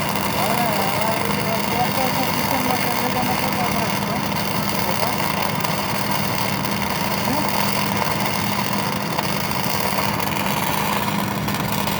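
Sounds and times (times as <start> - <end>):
constant hum: 0.0 - 11.9
welding arc crackle: 0.0 - 11.9.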